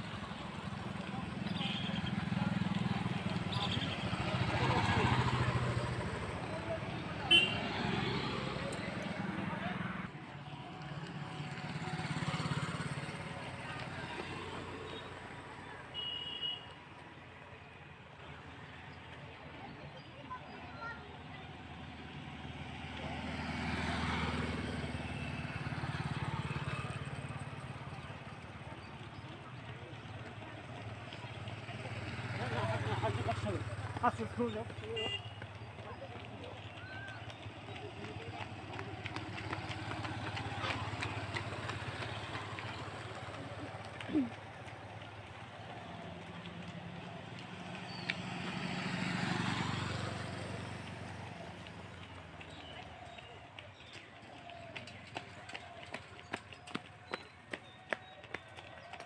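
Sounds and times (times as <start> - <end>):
vehicle engine passing: 0.0 - 15.6, 21.2 - 53.4.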